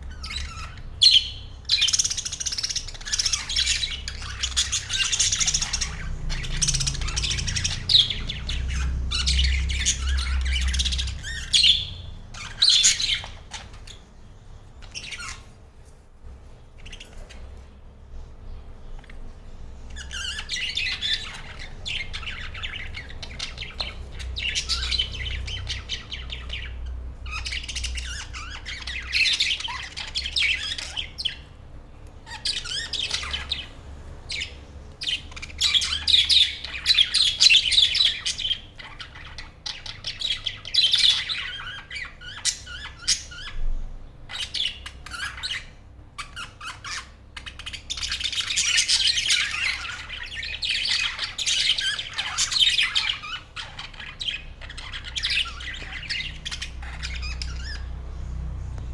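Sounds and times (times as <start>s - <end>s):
budgerigars chattering and chirping: 0.0s - 17.8s, 18.5s - 31.6s, 32.2s - 58.9s.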